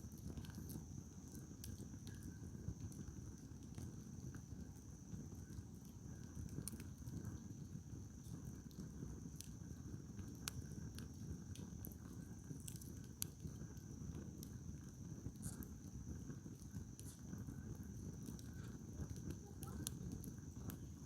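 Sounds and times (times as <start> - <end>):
campfire crackling and popping: 0.0 - 21.0
low steady fire rush: 0.0 - 21.0.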